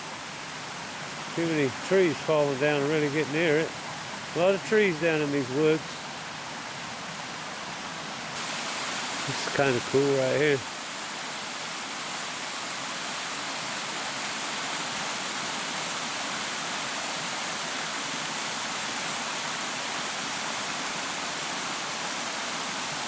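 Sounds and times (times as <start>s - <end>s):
stream pouring over cascade: 0.0s - 23.0s.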